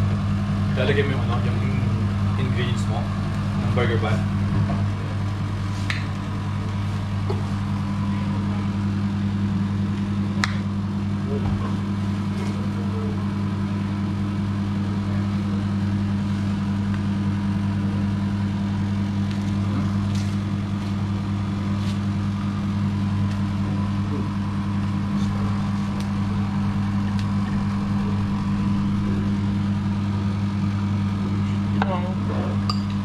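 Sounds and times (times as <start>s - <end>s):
kitchen appliance motor hum: 0.0s - 33.0s.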